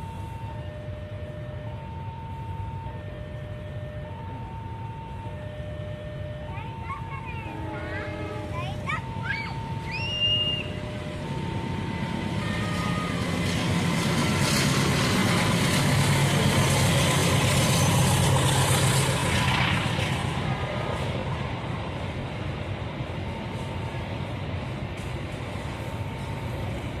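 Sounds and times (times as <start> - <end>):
train passing by: 0.0 - 27.0.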